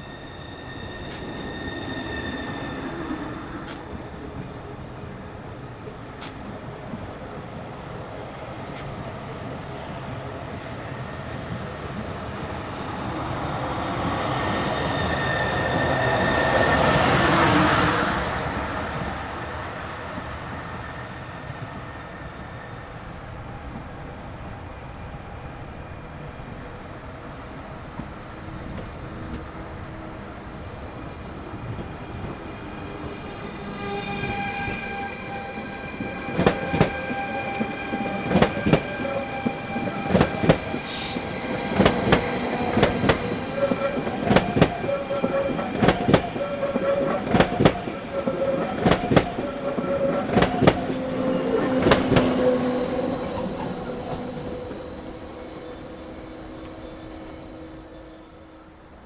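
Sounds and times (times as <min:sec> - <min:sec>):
high wheel squeal: 0:00.0 - 0:07.2, 0:10.6 - 0:19.8, 0:25.9 - 0:59.0
train rolling rumble: 0:00.0 - 0:59.0.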